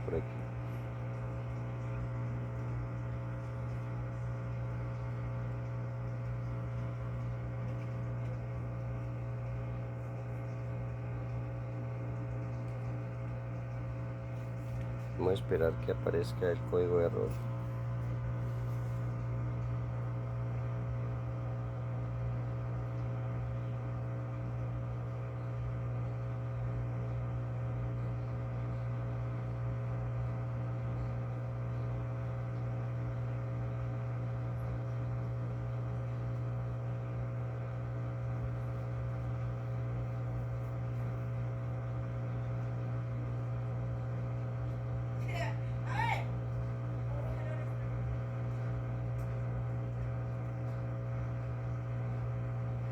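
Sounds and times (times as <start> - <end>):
washing machine humming: 0.0 - 52.9.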